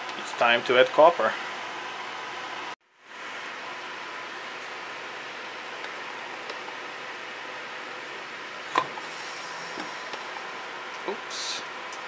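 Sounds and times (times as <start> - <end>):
cooling fans and pump whirring: 0.0 - 12.0.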